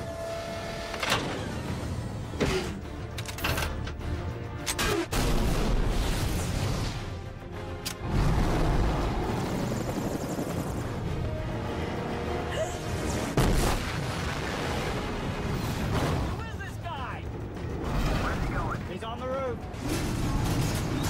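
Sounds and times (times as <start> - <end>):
action film music: 0.0 - 21.0.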